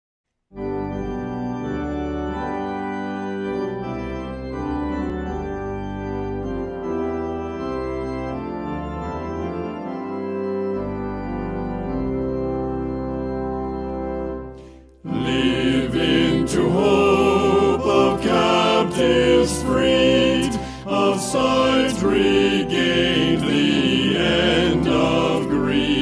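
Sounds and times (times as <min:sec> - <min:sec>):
church organ playing a hymn: 0:00.5 - 0:26.0.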